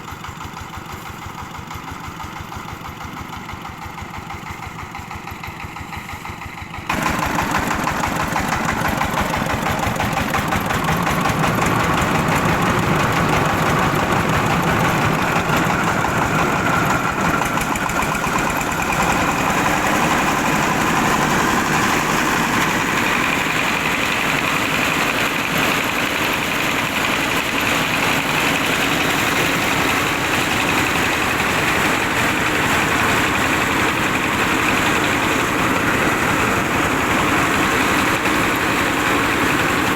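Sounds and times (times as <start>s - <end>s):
car engine driving rice mill: 0.0s - 39.9s.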